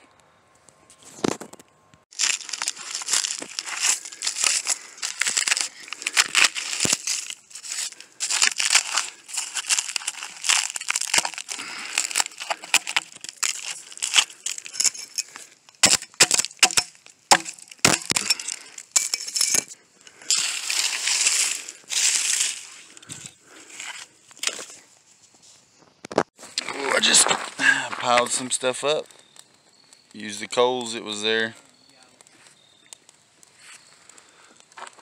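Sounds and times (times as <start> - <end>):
wood crunching: 1.0 - 25.4, 26.0 - 35.0
rotten wood splintering and cracking: 2.1 - 24.8, 26.5 - 35.0.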